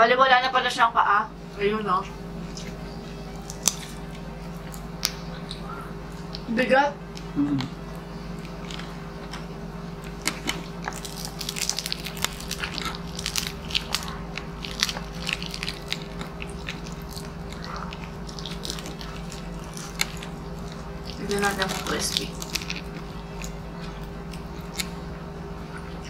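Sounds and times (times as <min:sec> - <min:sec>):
faint steady hum: 0:00.0 - 0:26.0
chewing: 0:02.4 - 0:06.5, 0:07.1 - 0:26.0
crispy pork skin crunching: 0:02.4 - 0:06.5, 0:07.1 - 0:26.0.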